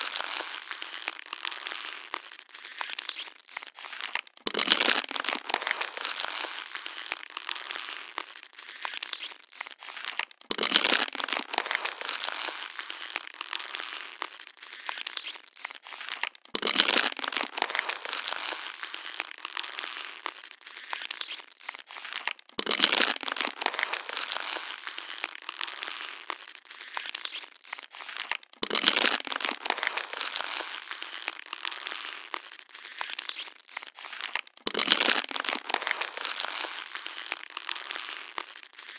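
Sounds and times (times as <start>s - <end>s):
plastic bottle crinkling: 0.0s - 38.9s.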